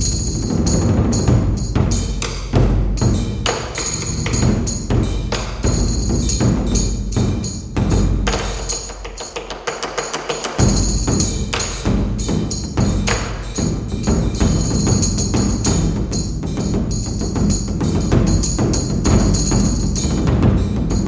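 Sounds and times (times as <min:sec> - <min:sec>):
rapid percussion strikes: 0:00.0 - 0:21.0.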